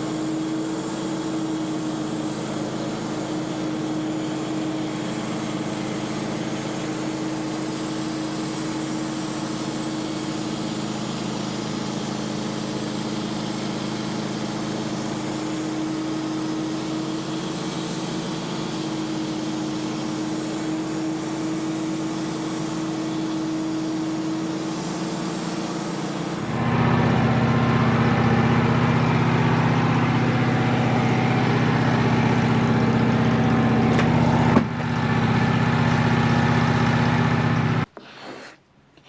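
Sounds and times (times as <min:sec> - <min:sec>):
band sawmill engine hum: 0:00.0 - 0:39.0.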